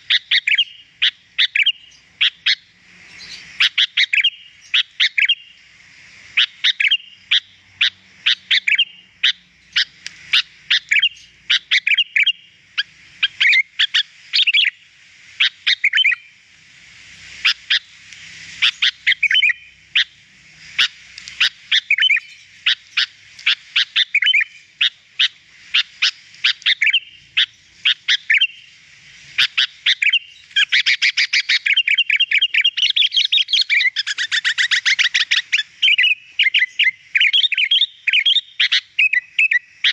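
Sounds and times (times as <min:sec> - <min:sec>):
bird chirping: 0:00.0 - 0:16.4, 0:17.4 - 0:39.9.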